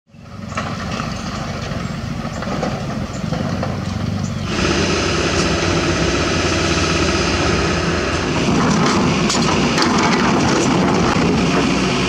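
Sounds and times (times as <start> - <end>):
diesel engines running: 0.1 - 12.0.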